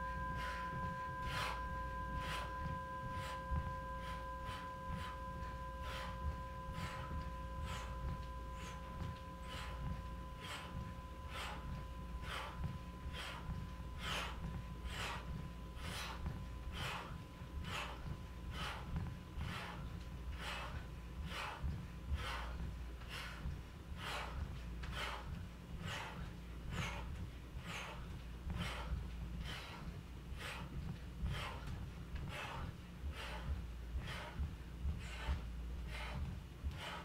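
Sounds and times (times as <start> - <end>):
person breathing hard: 0.1 - 37.0.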